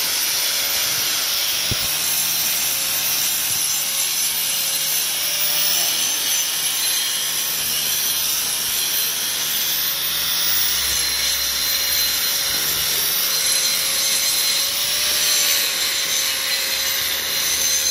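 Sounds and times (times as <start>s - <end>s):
grinder cutting concrete: 0.0s - 17.9s.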